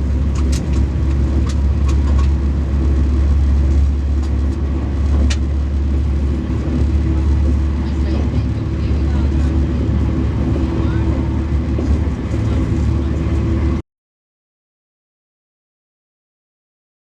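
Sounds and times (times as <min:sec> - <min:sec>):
train running at speed: 0:00.0 - 0:13.8.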